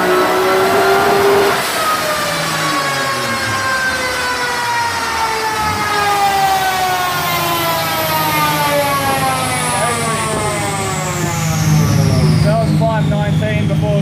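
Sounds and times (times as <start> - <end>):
car engine revs falling: 0.0 - 13.6
high turbo whine: 0.0 - 14.0.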